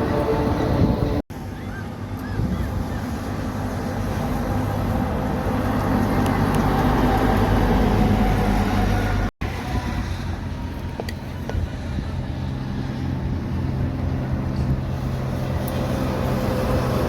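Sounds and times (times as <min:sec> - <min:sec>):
traffic noise: 0:00.0 - 0:17.0
truck passing by: 0:00.0 - 0:17.0.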